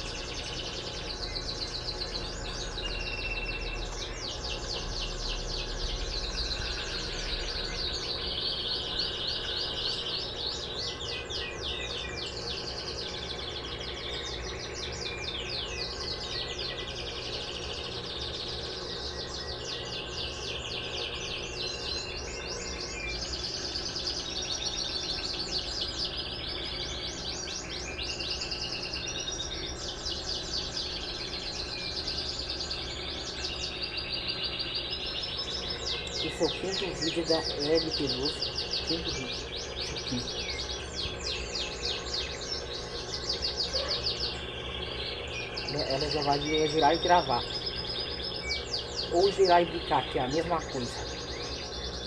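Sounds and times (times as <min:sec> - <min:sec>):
small birds chirping: 0:00.0 - 0:52.0
steady low hum: 0:00.0 - 0:52.0.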